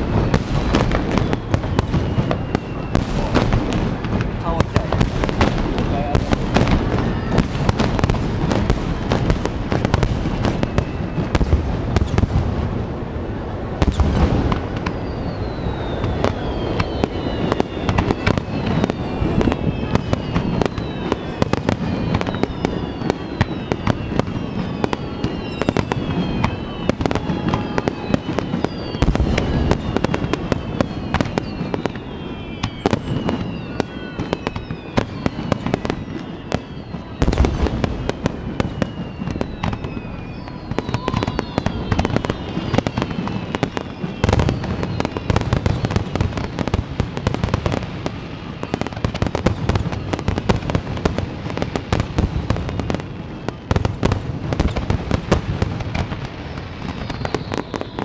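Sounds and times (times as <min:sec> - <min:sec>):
falling firework whistles: 0:00.0 - 0:58.0
heavy firework booms: 0:00.0 - 0:58.0.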